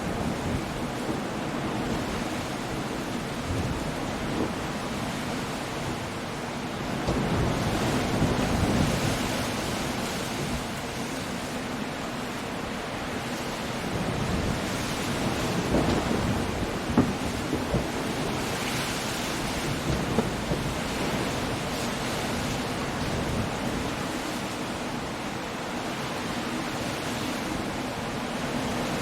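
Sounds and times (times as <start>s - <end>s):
gusting wind: 0.0s - 29.0s
waves breaking: 0.0s - 29.0s.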